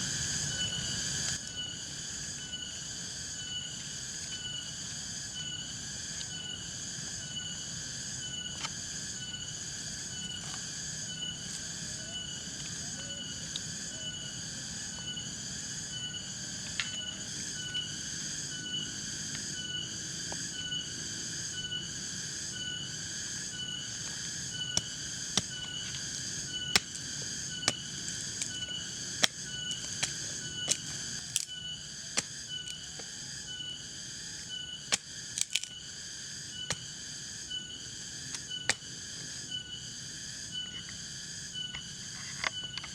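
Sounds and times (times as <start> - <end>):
night insects chirping: 0.0 - 42.9.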